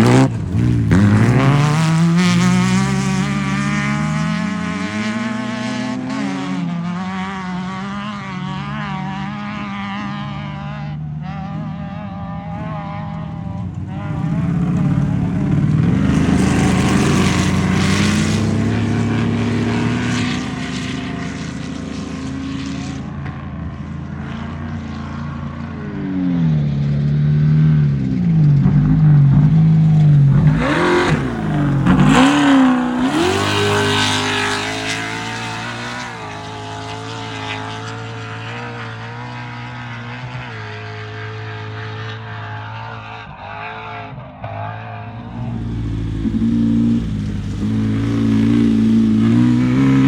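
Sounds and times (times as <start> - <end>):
race vehicle engine revving: 0.0 - 23.5, 24.1 - 50.0.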